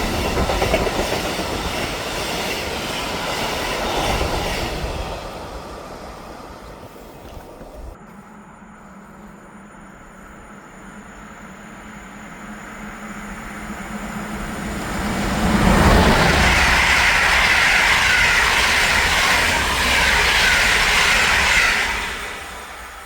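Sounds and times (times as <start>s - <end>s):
train passing: 0.0s - 23.0s
wheels rushing on rail: 0.0s - 23.0s.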